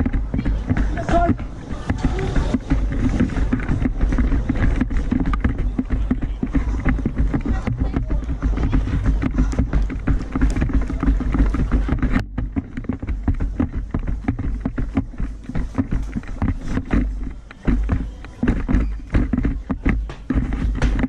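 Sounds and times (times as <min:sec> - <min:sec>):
gear rattling: 0:00.0 - 0:21.0
rapid running footsteps: 0:00.0 - 0:21.0
wind buffeting on microphone: 0:00.0 - 0:21.0.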